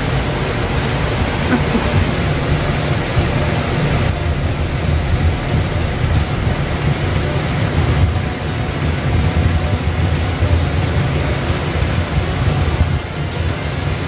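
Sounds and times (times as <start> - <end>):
waterfall pouring over rocks: 0.0 - 14.0.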